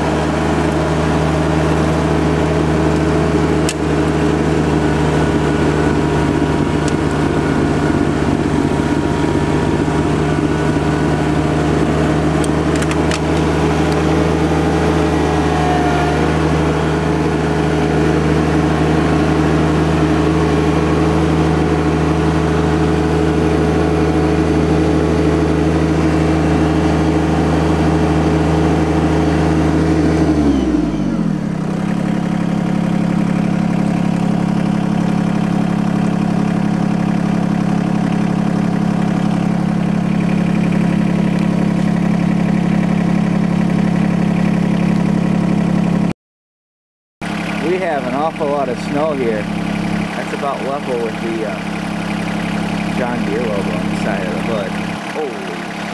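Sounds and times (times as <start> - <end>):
diesel tractor engine running: 0.0 - 46.1, 47.2 - 55.9.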